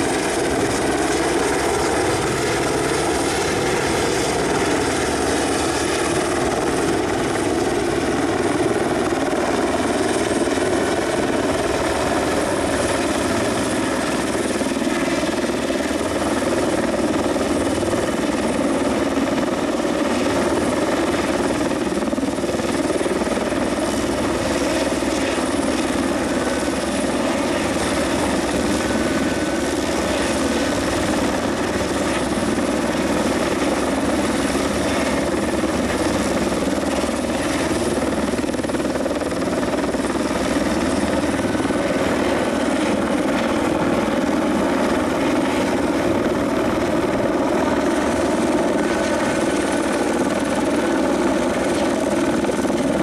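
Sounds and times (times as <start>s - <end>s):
helicopter hovering: 0.0s - 53.0s.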